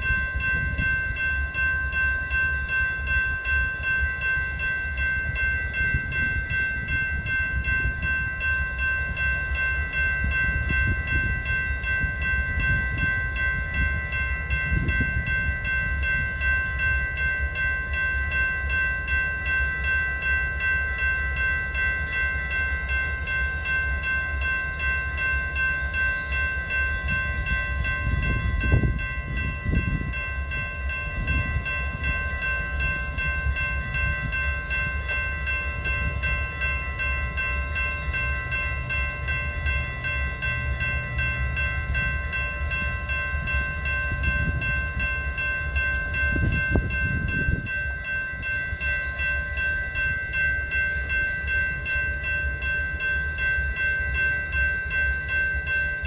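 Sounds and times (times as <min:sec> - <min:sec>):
train rumbling with high whine: 0:00.0 - 0:56.0.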